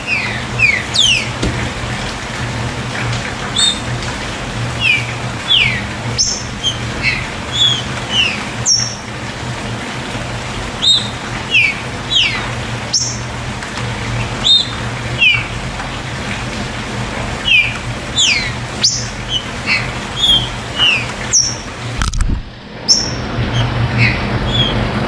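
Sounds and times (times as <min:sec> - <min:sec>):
rain hiss: 0:00.0 - 0:22.2.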